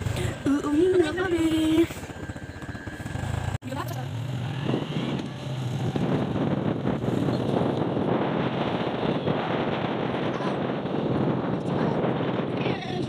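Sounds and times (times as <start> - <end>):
low vehicle drone: 0.0 - 13.0
wind buffeting microphone: 0.0 - 13.0.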